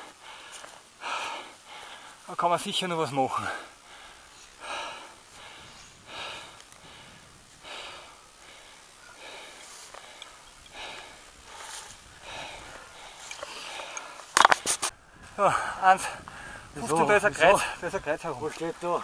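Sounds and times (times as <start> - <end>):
person breathing hard: 0.0 - 2.3, 3.4 - 16.8.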